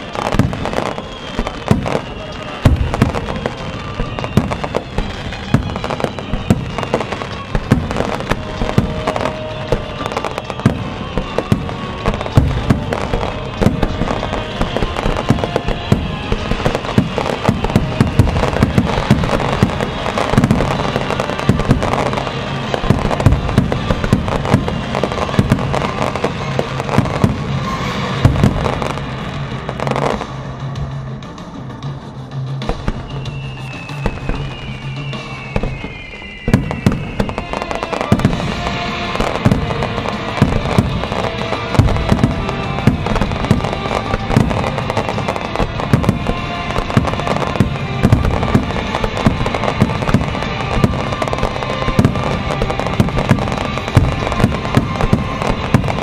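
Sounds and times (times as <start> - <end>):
firework shells bursting: 0.0 - 30.6, 32.6 - 56.0
music playing: 0.0 - 56.0.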